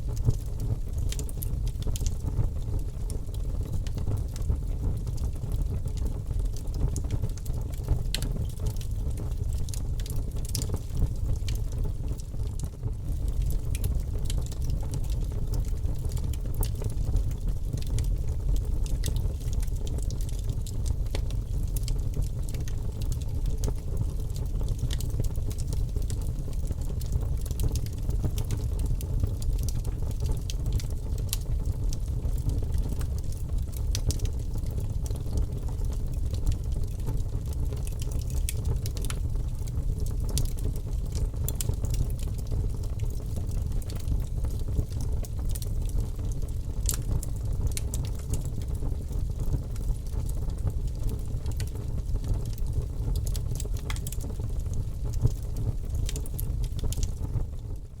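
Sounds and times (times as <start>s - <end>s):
bonfire crackling and popping: 0.0s - 58.0s
low fire rumble: 0.0s - 58.0s.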